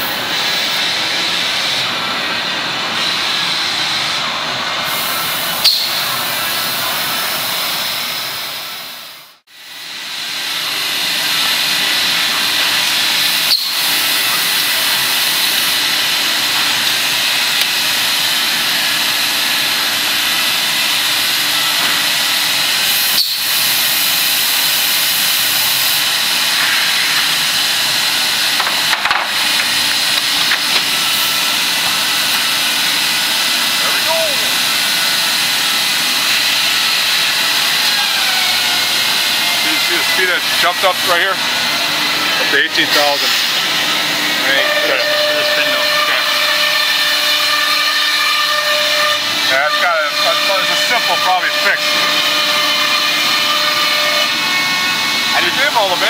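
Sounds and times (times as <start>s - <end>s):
woodworking machinery hiss and whine: 0.0s - 56.0s.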